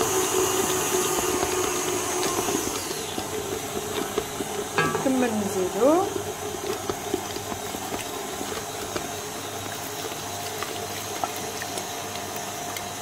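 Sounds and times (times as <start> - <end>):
stand mixer motor running: 0.0 - 13.0.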